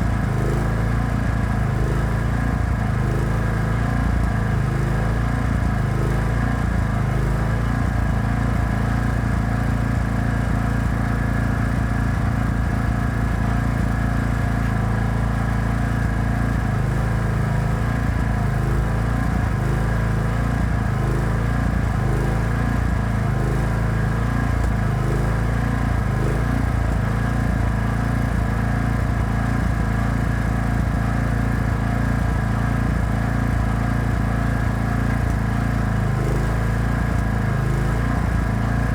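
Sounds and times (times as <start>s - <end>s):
welding generator engine running: 0.0s - 38.9s.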